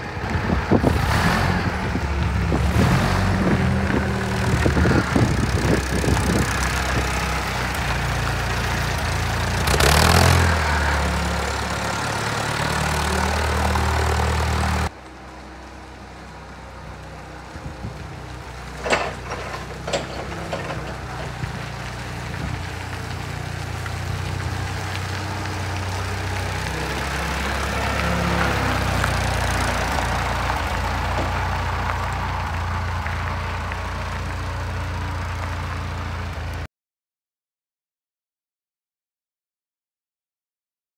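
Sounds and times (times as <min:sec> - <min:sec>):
forklift engine running: 0:00.0 - 0:36.6.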